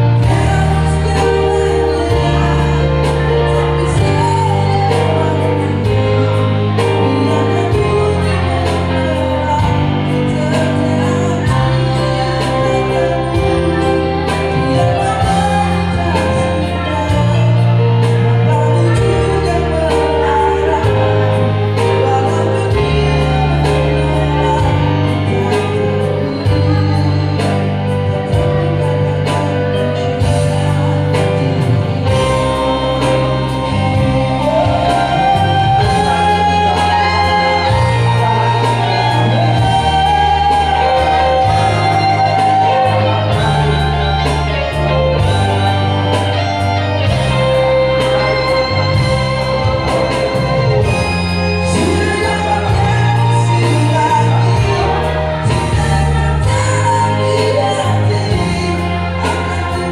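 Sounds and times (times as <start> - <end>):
live band music: 0.0 - 59.9
man singing: 0.0 - 59.9.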